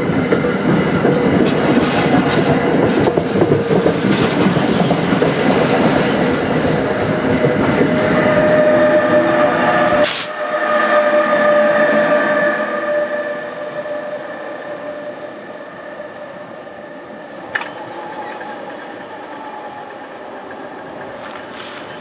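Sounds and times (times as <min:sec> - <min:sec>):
train rumbling over track: 0:00.0 - 0:22.0.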